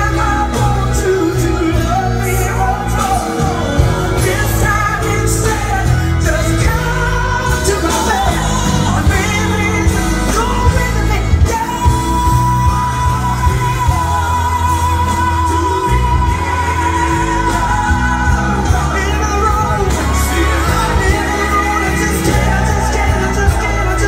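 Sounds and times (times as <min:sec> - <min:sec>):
heavy bass line: 0:00.0 - 0:24.0
loud music with singing: 0:00.0 - 0:24.0.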